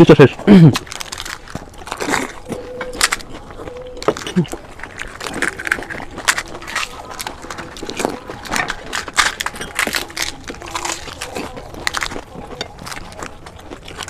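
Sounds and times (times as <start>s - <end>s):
crisp shells crunching: 0.0s - 14.0s.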